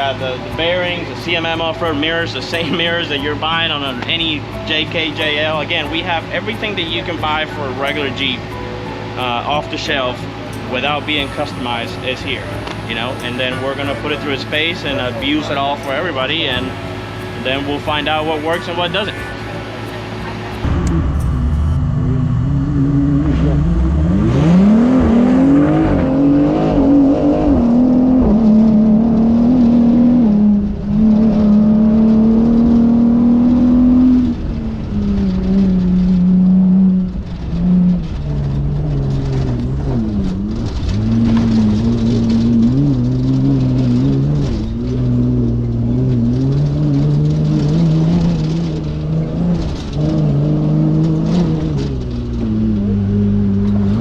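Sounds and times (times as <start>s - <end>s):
race vehicle engine revving: 0.0s - 54.0s.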